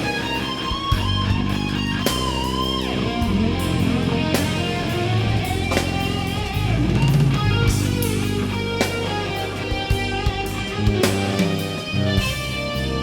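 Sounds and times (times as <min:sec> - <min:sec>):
rock music: 0:00.0 - 0:13.0.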